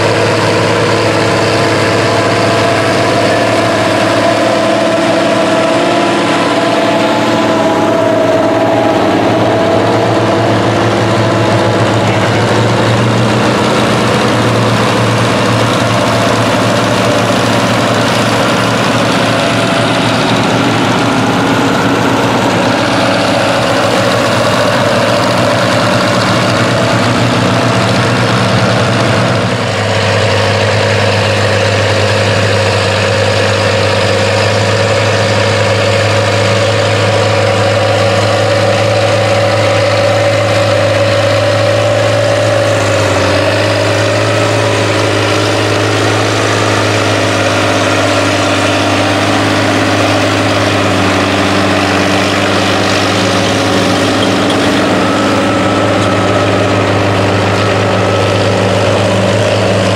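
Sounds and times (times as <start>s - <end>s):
tractor diesel engine under load: 0.0s - 59.9s
tractor engine humming: 0.0s - 59.9s.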